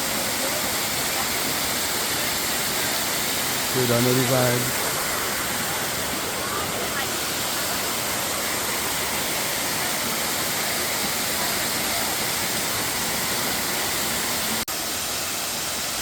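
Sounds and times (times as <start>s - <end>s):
waterfall running: 0.0s - 16.0s.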